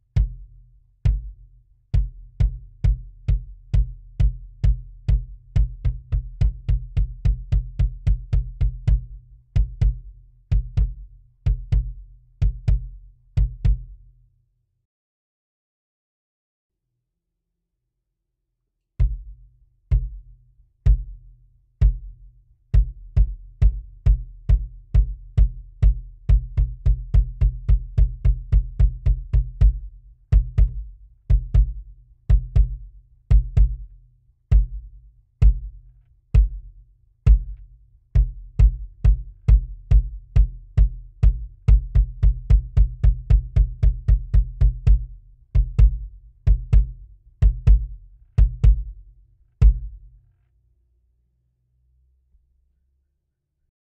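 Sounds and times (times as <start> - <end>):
bass drum kicks: 0.0 - 14.0, 19.0 - 50.2.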